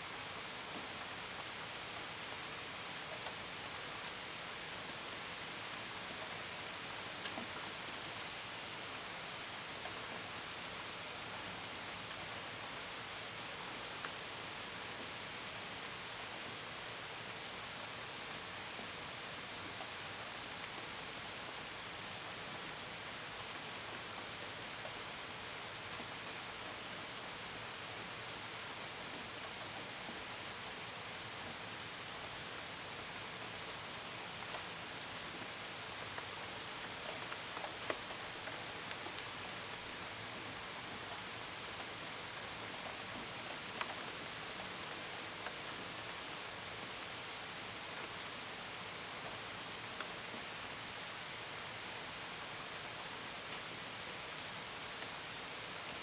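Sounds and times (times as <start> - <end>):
crickets chirping faintly: 0.1 - 56.0
rain on window and gutters: 0.1 - 56.0.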